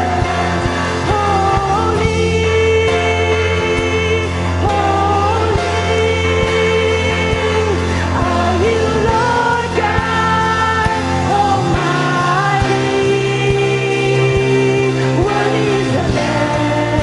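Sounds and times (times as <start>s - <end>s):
band playing praise song: 0.0s - 17.0s.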